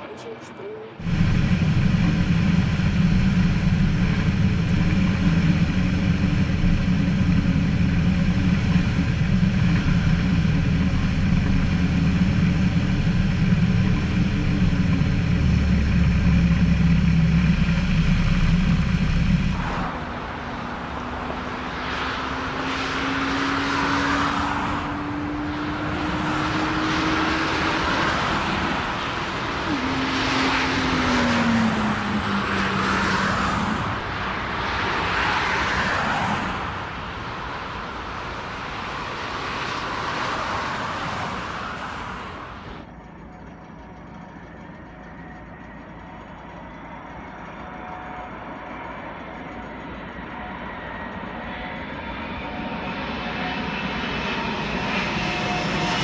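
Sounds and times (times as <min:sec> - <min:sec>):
distant jet airliner engine: 0:00.0 - 0:56.0
light aircraft engine and propeller: 0:00.0 - 0:56.0.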